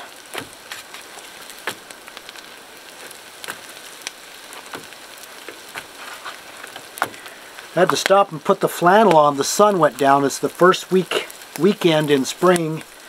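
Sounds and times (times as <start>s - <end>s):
oil popping: 0.0s - 13.0s
potatoes sizzling in a pan: 0.0s - 13.0s.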